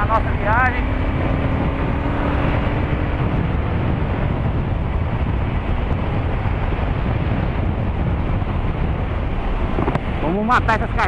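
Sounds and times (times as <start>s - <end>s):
motorcycle engine: 0.0s - 10.2s
wind rush on microphone: 0.0s - 11.0s.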